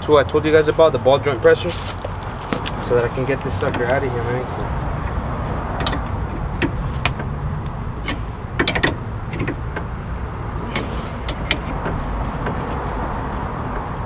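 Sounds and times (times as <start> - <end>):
metal clicks and creaks: 2.0 - 14.0
steady low rumble: 2.4 - 14.0.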